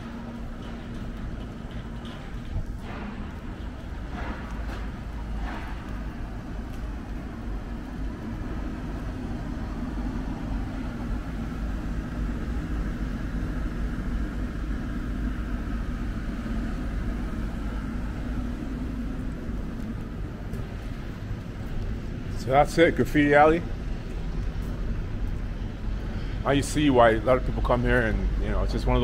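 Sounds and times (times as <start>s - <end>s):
city traffic hum: 0.0s - 29.0s.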